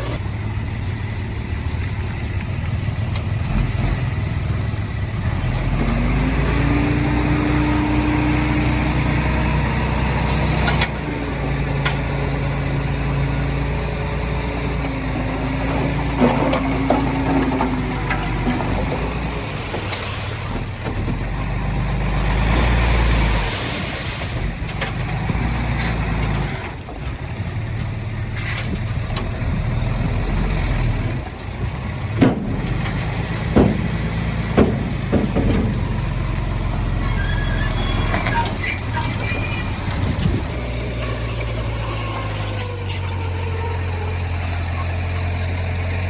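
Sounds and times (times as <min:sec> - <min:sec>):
diesel earthmoving machinery running: 0:00.0 - 0:46.0.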